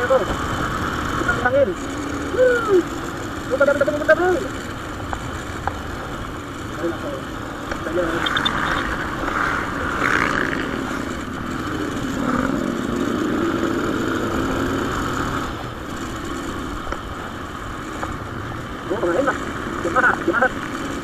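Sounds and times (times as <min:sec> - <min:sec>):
motorcycle engine running: 0:00.0 - 0:21.0
rush of noise: 0:00.0 - 0:21.0.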